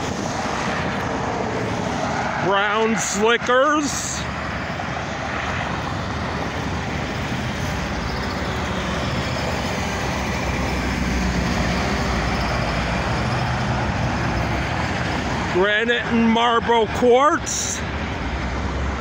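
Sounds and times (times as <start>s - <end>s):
road traffic: 0.0s - 19.0s
truck passing by: 0.0s - 19.0s.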